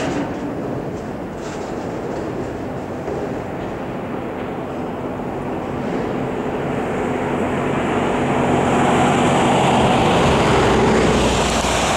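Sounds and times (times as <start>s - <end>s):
diesel locomotive engine drone: 0.0s - 11.9s
train rolling noise: 0.0s - 11.9s.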